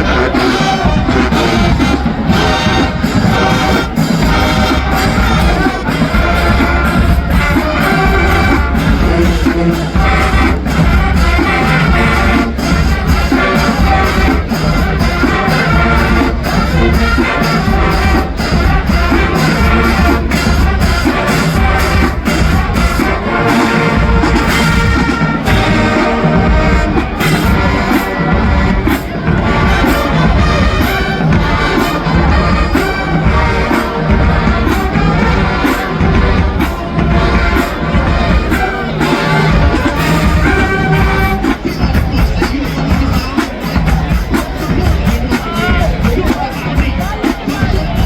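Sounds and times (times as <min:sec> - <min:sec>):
steady drum beat: 0:00.0 - 0:48.0
trumpets and trombones: 0:00.0 - 0:48.0.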